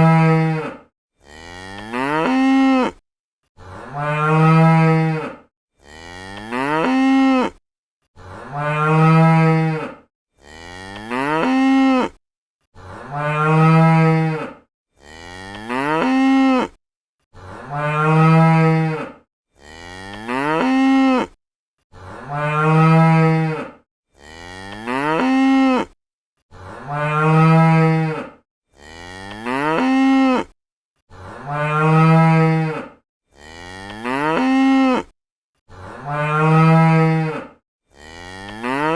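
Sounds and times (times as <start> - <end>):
cow mooing: 0.0 - 3.0, 3.6 - 7.6, 8.2 - 12.2, 12.8 - 16.8, 17.4 - 21.4, 22.0 - 38.9.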